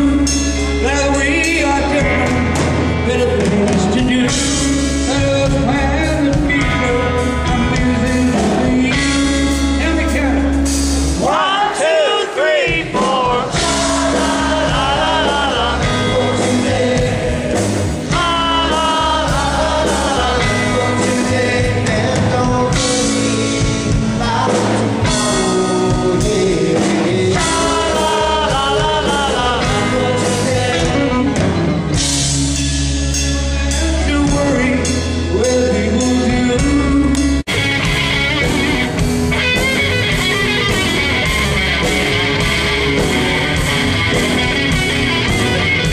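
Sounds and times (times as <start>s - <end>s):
lead singer: 0.0s - 45.9s
live rock band playing: 0.0s - 45.9s.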